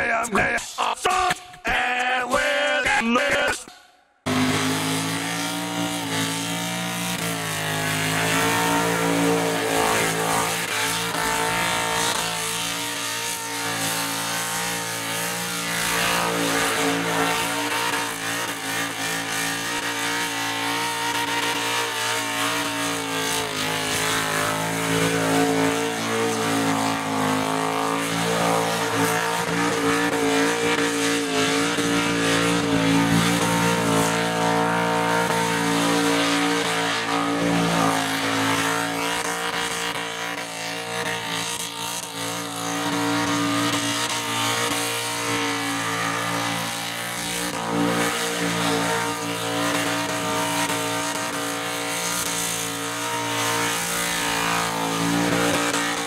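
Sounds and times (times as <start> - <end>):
car engine revving high: 3.7 - 56.0.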